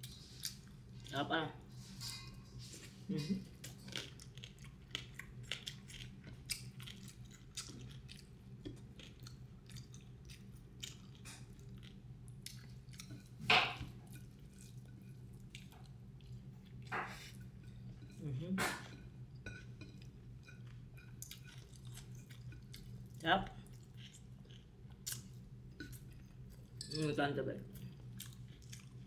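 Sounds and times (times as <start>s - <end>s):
person chewing food: 3.4s - 18.3s, 18.9s - 26.8s, 27.7s - 29.0s.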